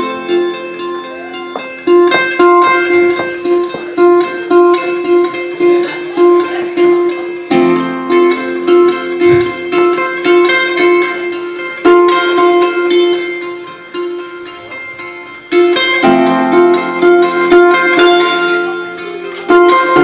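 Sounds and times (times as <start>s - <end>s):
harp playing: 0.0s - 20.0s.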